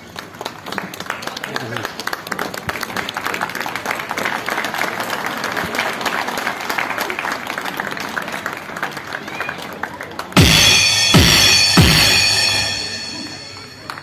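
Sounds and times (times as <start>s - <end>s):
crowd clapping: 0.0s - 10.4s, 13.0s - 14.0s.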